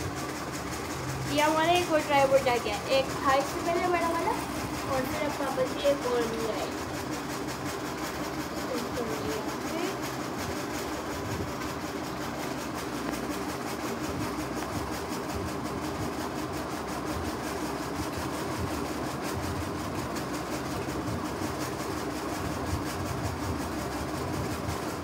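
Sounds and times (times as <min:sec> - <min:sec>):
steady mechanical hum and rumble: 0:00.0 - 0:25.0.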